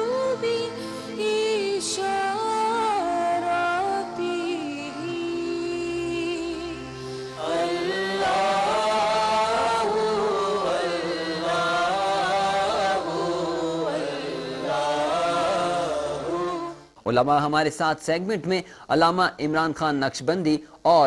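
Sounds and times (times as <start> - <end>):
group of voices singing: 0.0 - 17.0.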